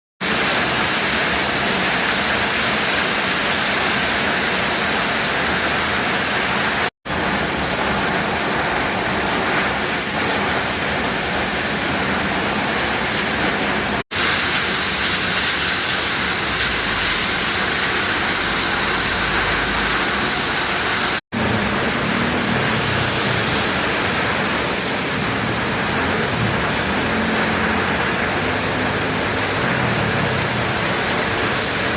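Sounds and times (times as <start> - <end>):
heavy rain falling: 0.2 - 31.9.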